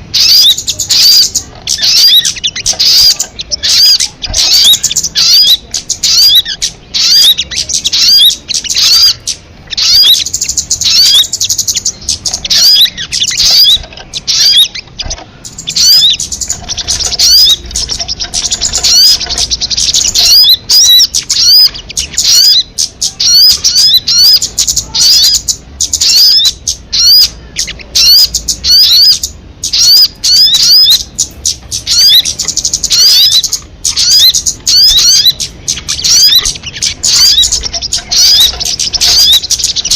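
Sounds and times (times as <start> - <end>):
bird song of high chirps: 0.0 - 39.9.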